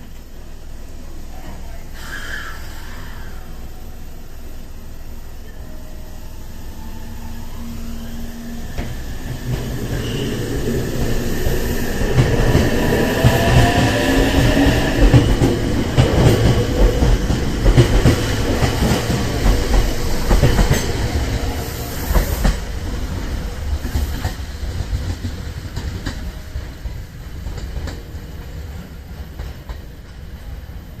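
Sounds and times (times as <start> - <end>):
electric train running on rails: 0.0 - 31.0.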